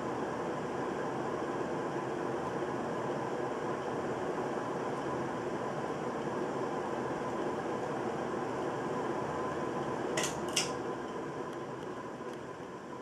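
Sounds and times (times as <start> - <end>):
ceiling fan whirring: 0.0 - 13.0.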